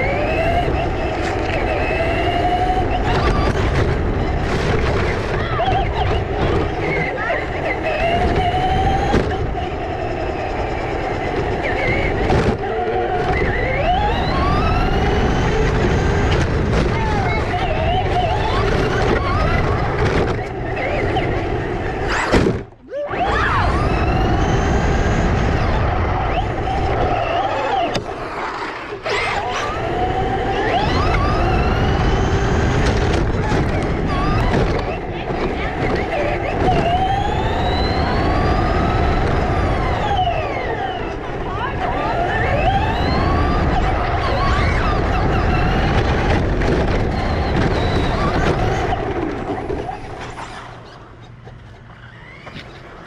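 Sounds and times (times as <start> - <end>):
electric toy car motor whining: 0.0 - 22.4, 23.1 - 51.2, 51.8 - 53.0.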